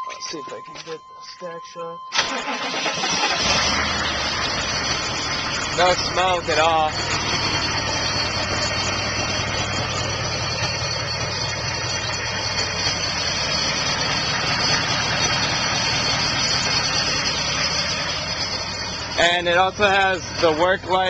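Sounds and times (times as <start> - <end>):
diesel engine idling: 0.3 - 21.0.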